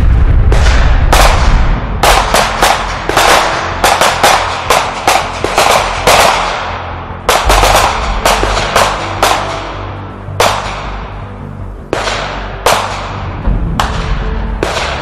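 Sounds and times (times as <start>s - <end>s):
echoing gunshots: 0.0s - 15.0s.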